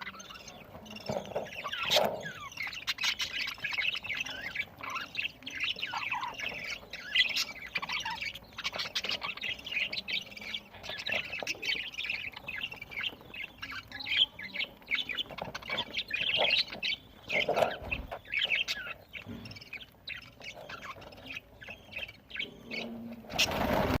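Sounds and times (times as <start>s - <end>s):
budgies chattering: 0.0s - 24.0s.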